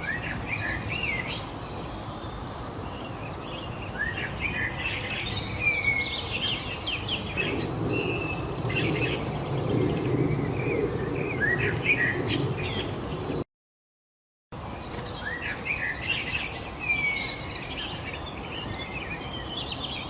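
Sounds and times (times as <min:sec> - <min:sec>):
birds singing and chirping: 0:00.0 - 0:13.4, 0:14.6 - 0:20.0.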